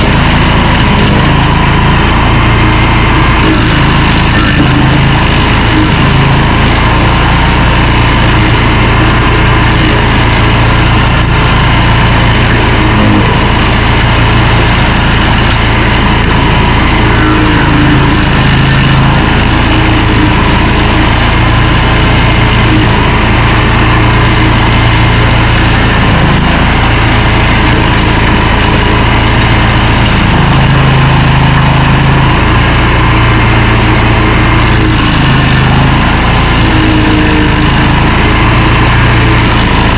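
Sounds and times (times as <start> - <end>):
stump grinder engine drone: 0.0 - 39.9.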